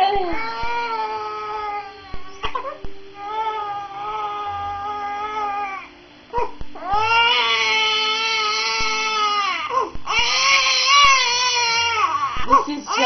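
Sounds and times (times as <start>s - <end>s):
baby crying: 0.0s - 13.0s.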